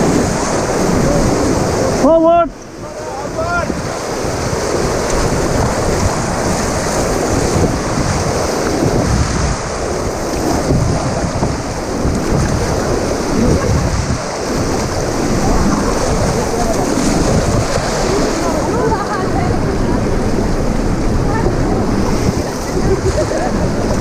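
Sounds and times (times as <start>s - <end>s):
whitewater rapids rushing: 0.0s - 24.0s
wind buffeting microphone: 0.0s - 24.0s.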